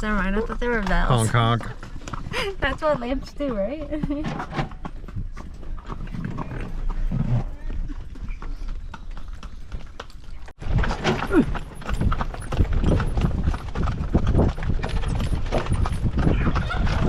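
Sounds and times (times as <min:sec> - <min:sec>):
horse hooves clip-clopping on road: 0:00.0 - 0:17.0.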